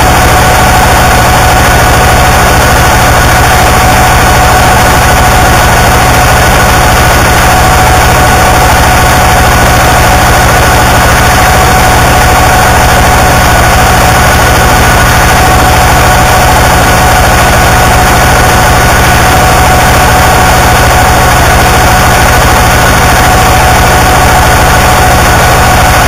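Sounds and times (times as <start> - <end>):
harsh noise music: 0.0 - 26.0.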